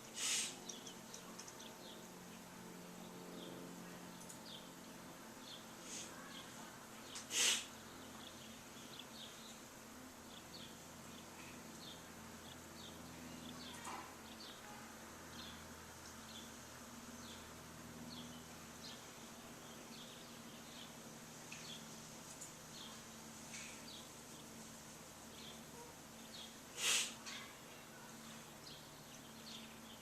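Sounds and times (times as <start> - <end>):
faint steady low hum: 0.0 - 30.0
small birds chirping: 0.0 - 30.0.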